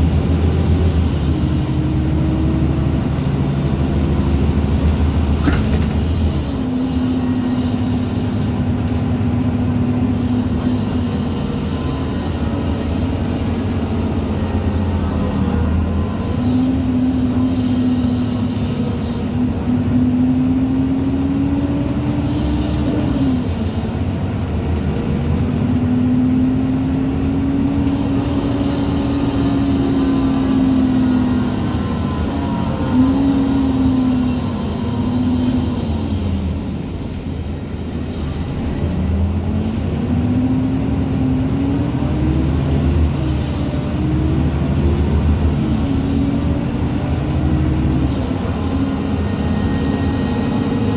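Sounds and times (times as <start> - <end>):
low engine and road rumble: 0.0 - 50.9.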